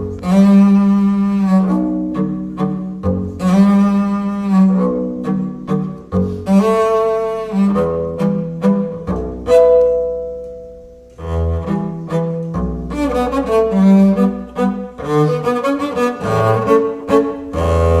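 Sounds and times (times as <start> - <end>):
instrumental string music: 0.0 - 18.0.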